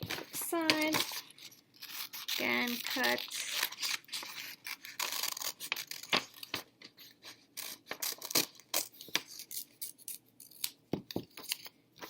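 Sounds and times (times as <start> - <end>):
scissors snipping paper: 0.0 - 11.7.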